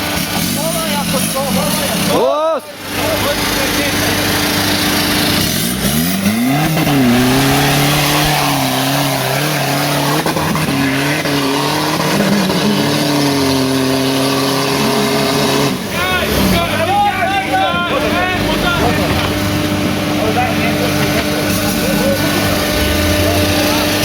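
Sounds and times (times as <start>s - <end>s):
diesel engine revving hard: 0.0s - 24.0s.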